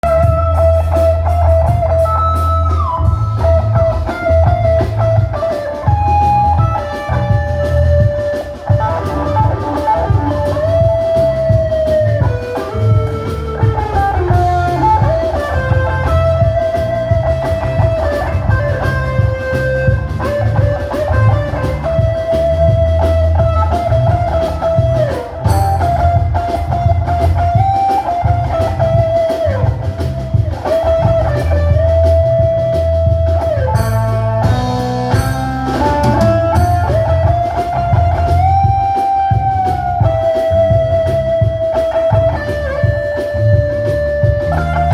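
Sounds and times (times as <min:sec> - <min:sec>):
drum kit: 0:00.0 - 0:44.9
lead guitar melody: 0:00.0 - 0:44.9
pulsing bass line: 0:00.0 - 0:44.9.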